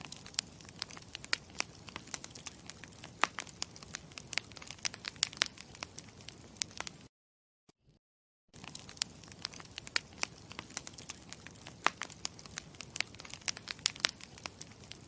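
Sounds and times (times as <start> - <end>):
campfire crackling: 0.0 - 7.1, 8.6 - 15.0.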